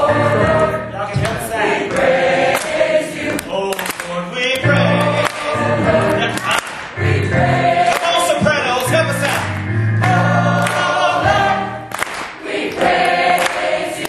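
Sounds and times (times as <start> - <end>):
gospel choir singing: 0.0 - 14.0.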